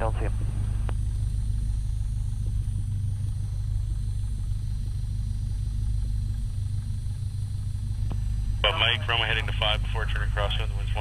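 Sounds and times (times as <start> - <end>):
propeller plane engine idling: 0.0 - 11.0.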